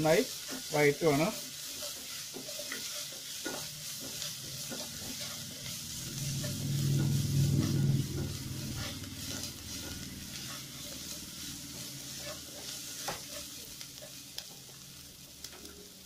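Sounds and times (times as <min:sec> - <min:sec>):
spatula stirring and scraping: 0:00.0 - 0:16.0
vegetables sizzling in oil: 0:00.0 - 0:16.0.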